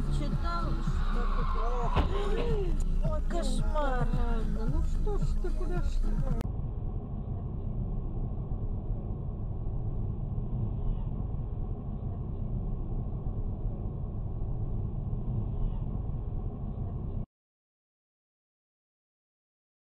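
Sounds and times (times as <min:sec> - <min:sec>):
road and engine rumble inside car: 0:00.0 - 0:17.3.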